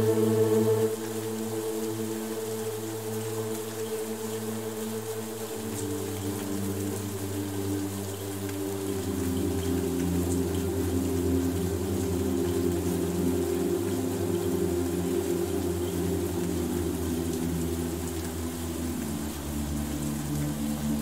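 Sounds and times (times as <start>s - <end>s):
faint rain patter: 0.0s - 21.0s
soft ambient music: 0.0s - 21.0s.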